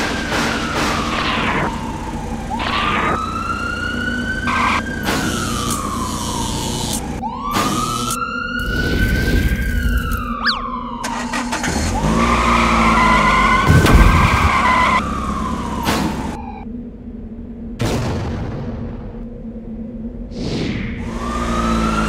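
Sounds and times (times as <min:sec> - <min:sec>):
emergency vehicle siren wailing: 0:00.0 - 0:16.7, 0:21.0 - 0:22.0.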